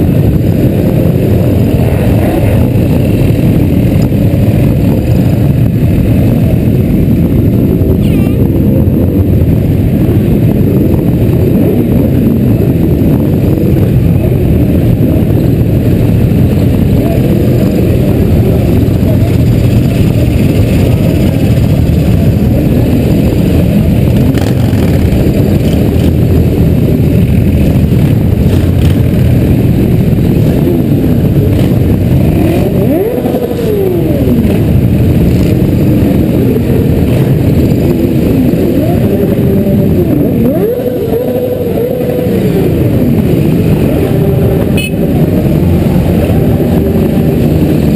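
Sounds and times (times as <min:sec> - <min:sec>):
motorcycle engines revving: 0:00.0 - 0:47.9
motorcycle engines rumbling: 0:00.0 - 0:47.9.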